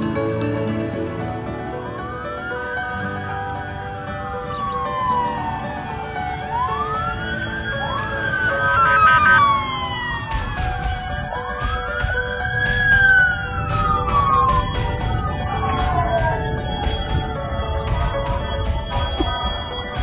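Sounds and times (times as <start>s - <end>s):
emergency sirens wailing: 1.4s - 20.0s.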